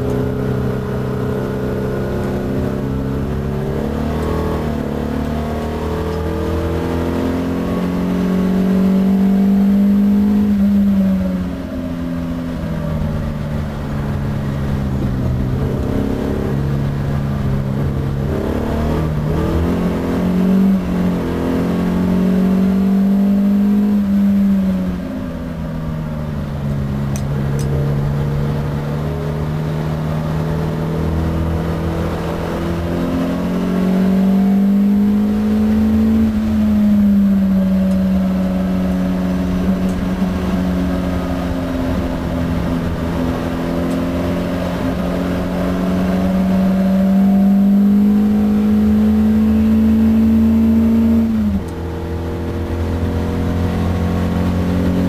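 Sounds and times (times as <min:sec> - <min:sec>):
car engine revving through gears: 0:00.0 - 0:55.0.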